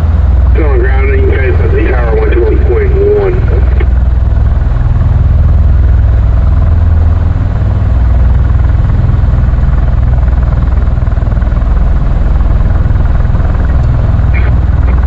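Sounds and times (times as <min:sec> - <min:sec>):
low pulsing rotor thrum: 0:00.0 - 0:15.0.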